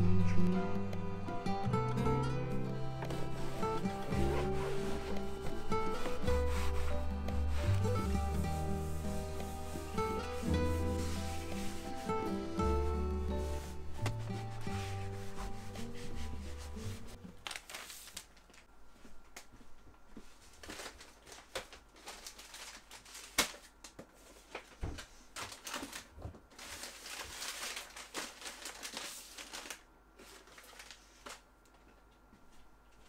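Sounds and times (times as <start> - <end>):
wrapping paper rustling: 3.0 - 19.5, 20.2 - 32.0.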